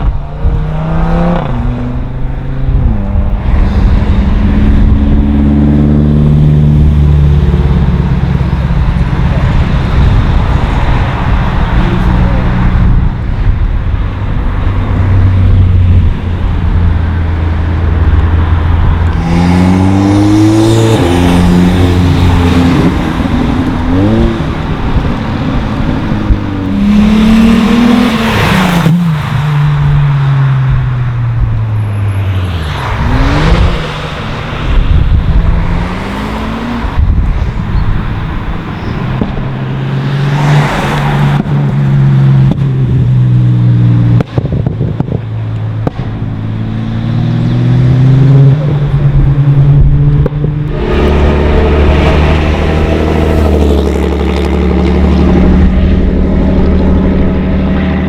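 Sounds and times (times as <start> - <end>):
cars accelerating past: 0.0 - 44.7, 45.4 - 58.0.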